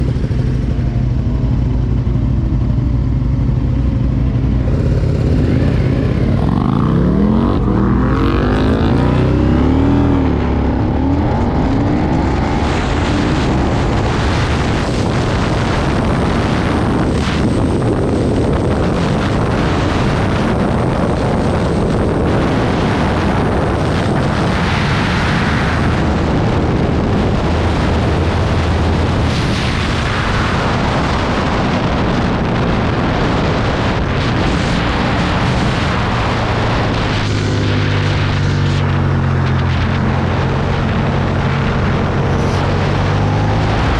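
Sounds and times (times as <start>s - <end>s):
motorcycle engine revving: 0.0s - 43.9s
wind and road noise: 0.0s - 43.9s.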